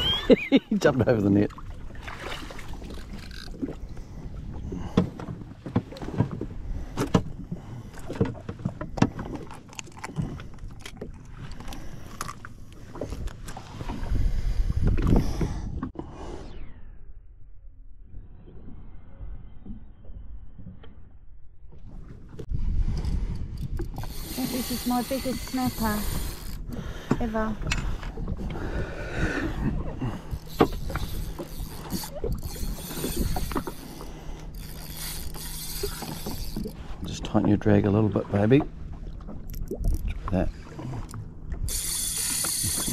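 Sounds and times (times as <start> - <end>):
knocks and clunks on a jetski: 0.0 - 16.1, 19.6 - 34.5, 35.6 - 42.9
water noise: 0.0 - 42.9
wind: 0.0 - 42.9.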